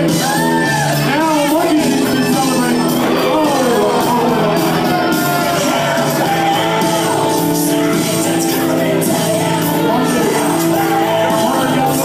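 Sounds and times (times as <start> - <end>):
loud music with singing: 0.0 - 12.0.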